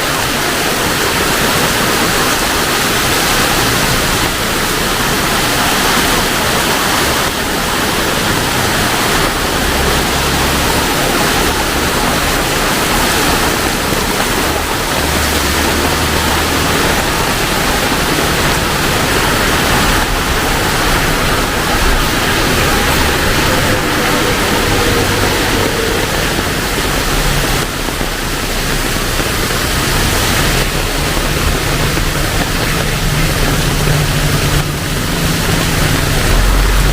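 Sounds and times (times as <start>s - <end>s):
heavy rain pouring: 0.0s - 36.9s
low hum: 2.0s - 36.9s.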